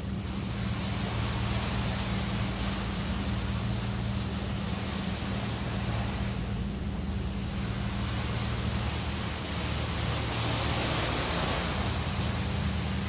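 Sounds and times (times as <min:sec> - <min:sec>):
hiss of wind and water: 0:00.0 - 0:13.0
ship engine drone: 0:00.0 - 0:13.0.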